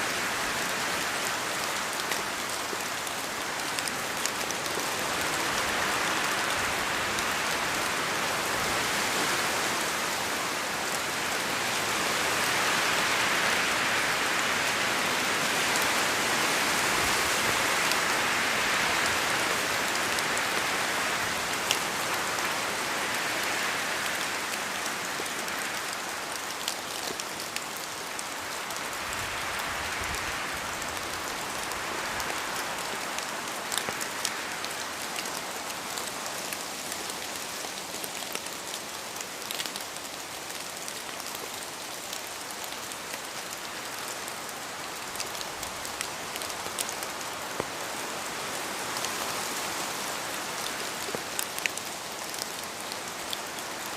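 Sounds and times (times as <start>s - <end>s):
rain falling in forest: 0.0s - 53.9s.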